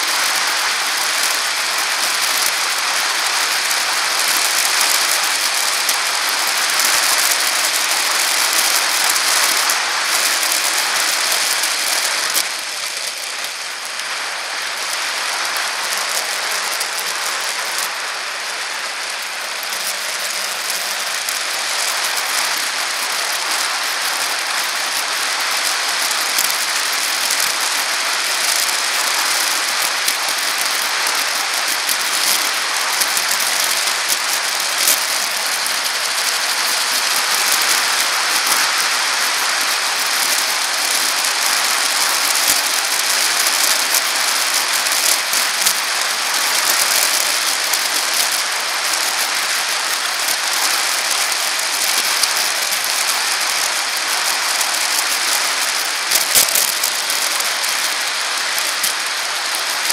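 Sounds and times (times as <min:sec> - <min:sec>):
bicycle rattling ticks: 0:00.0 - 0:59.9
bicycle tyres rolling on pavement: 0:00.0 - 0:59.9.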